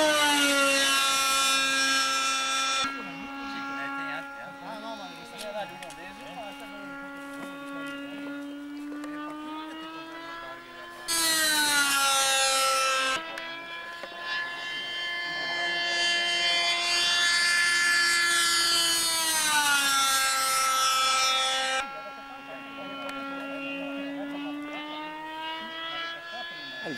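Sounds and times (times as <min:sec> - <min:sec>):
model jet engine whine: 0:00.0 - 0:26.9.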